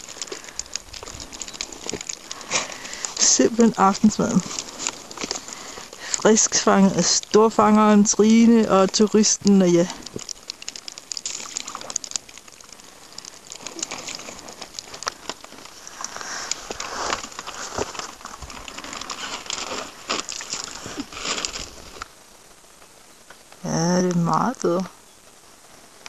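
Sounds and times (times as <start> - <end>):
plastic bag crinkling: 0.0 - 22.1
wet fish slithering and pattering: 0.0 - 22.2.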